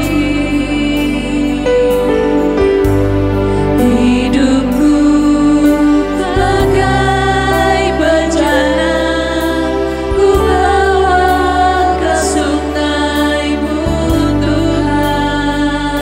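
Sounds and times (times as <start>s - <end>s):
women singing: 0.0s - 2.1s, 3.8s - 16.0s
keyboard accompaniment: 0.0s - 16.0s.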